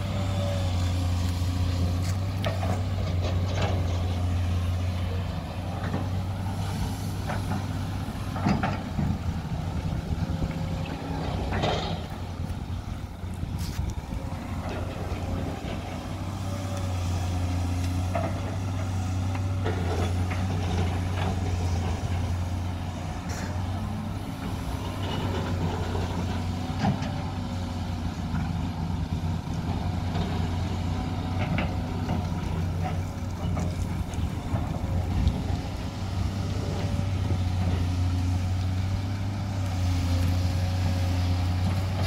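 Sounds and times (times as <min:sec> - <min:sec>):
excavator diesel engine droning: 0:00.0 - 0:42.0.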